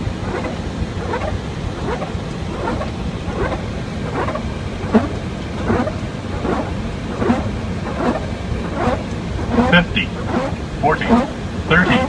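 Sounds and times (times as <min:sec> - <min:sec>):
rumble of airflow and engines: 0:00.0 - 0:12.0
windshield wipers sweeping: 0:00.2 - 0:12.0.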